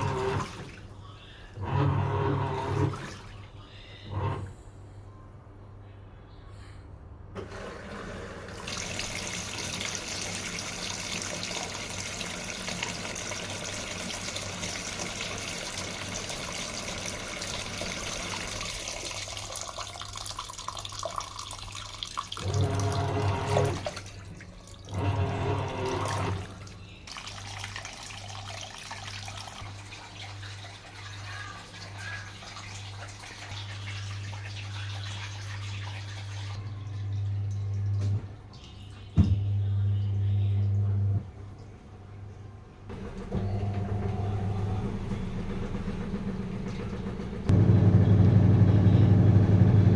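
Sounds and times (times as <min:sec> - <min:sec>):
water flowing into washing machine: 0:00.0 - 0:04.6, 0:07.4 - 0:38.7, 0:42.9 - 0:49.9
washing machine humming: 0:00.0 - 0:05.4, 0:07.3 - 0:49.9.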